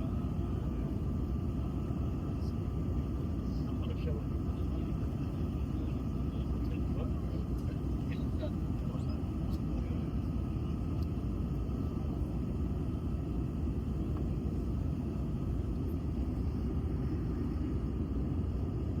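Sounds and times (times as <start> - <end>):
airliner low rumble: 0.0 - 19.0.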